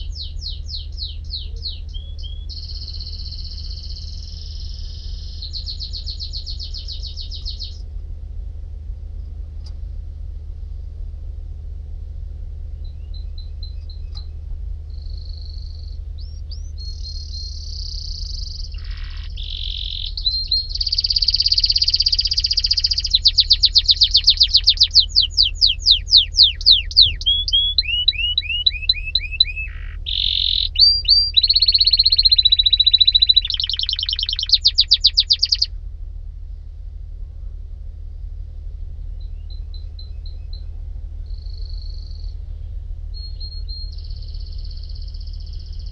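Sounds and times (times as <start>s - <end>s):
canary singing trills: 0.0s - 7.8s, 12.8s - 35.7s, 39.2s - 42.4s, 43.1s - 45.9s
steady low hum: 0.0s - 45.9s.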